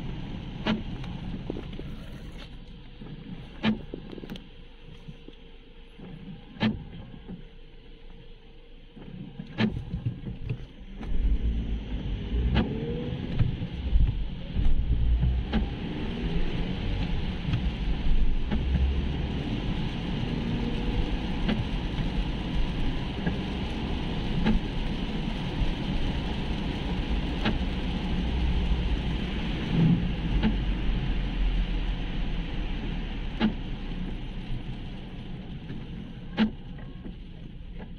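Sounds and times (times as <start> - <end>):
engine and tyre rumble: 0.0 - 37.9
windscreen wipers clicking: 0.2 - 7.5, 9.0 - 11.4, 12.4 - 32.1, 32.8 - 37.9.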